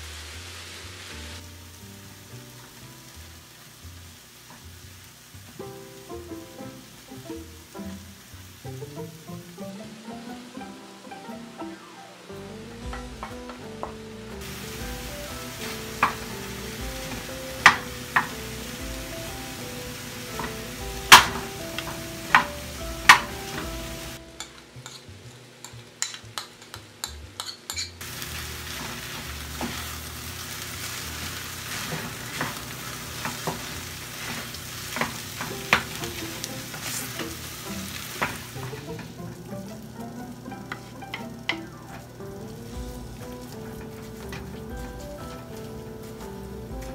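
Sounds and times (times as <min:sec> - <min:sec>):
food sizzling in a frying pan: 0:00.0 - 0:46.9
light background music: 0:00.8 - 0:04.6, 0:05.4 - 0:46.9.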